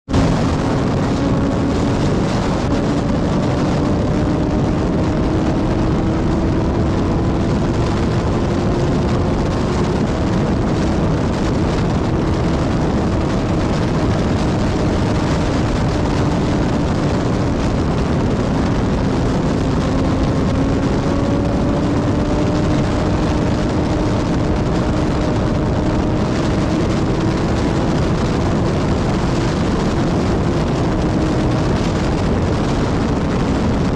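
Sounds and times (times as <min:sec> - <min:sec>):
strong wind rushing: 0:00.0 - 0:33.9
faint low wind howl: 0:00.1 - 0:33.9.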